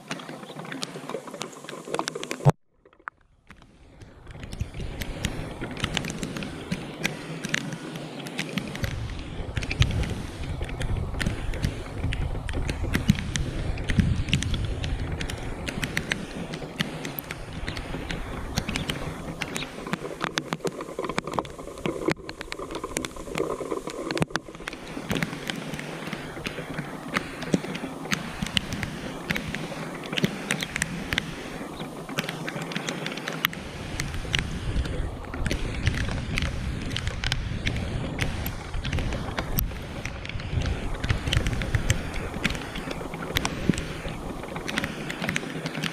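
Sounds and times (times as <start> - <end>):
rain drops tapping: 0.0 - 45.9.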